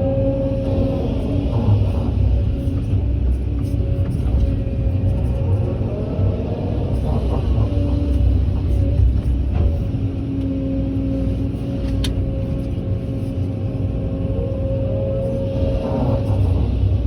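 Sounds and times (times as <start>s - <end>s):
diesel machinery engine rumble: 0.0s - 17.0s.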